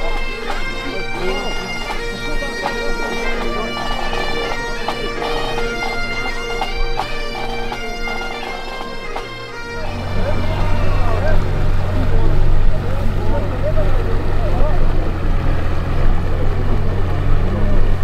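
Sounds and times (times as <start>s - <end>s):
bagpipes playing a tune: 0.0s - 18.0s.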